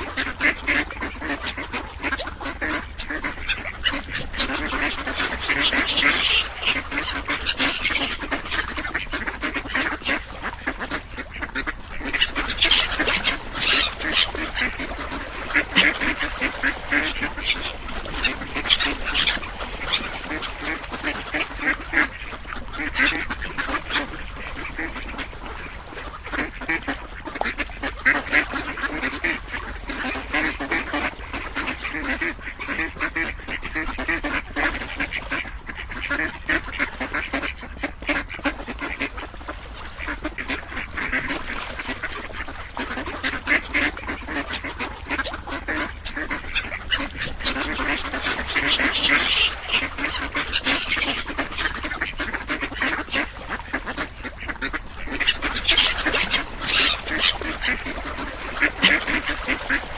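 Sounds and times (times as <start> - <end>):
ducks quacking: 0.0 - 59.9.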